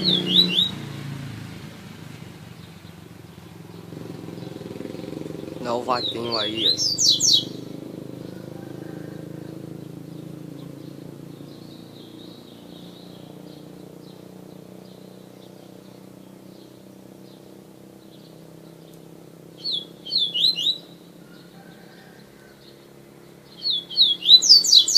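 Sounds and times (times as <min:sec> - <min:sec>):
songbird chirping: 0:00.0 - 0:24.9.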